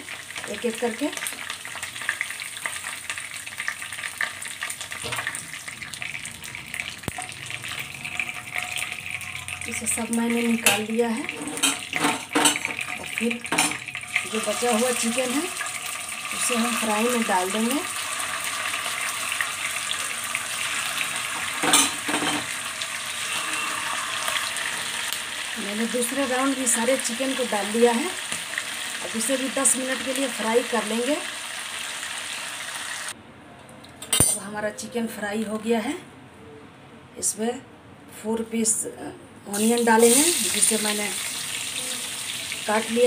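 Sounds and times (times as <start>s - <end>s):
chicken sizzling in hot oil: 0.0s - 33.2s, 39.5s - 43.0s.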